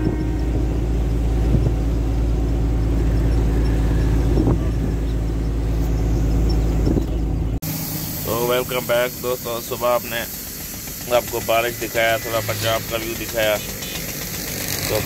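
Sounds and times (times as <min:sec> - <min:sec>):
road rumble: 0:00.0 - 0:15.0
truck engine drone: 0:00.0 - 0:15.0.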